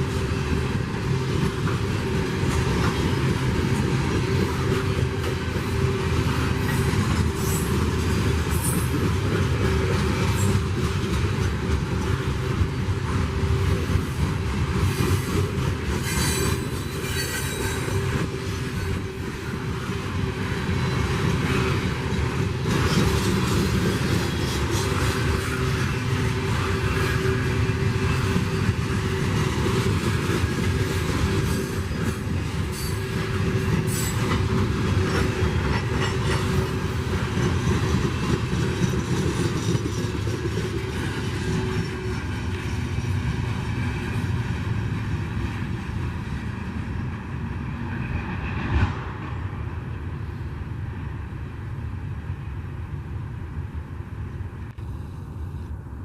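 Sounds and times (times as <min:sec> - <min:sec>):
freight train wheels clattering: 0:00.0 - 0:46.5.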